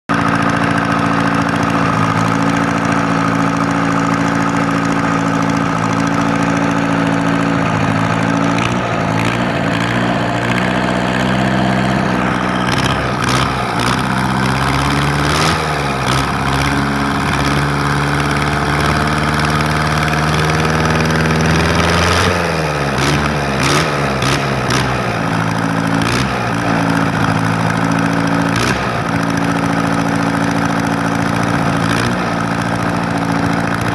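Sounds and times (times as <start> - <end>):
engine idling and revving: 0.1 - 33.9.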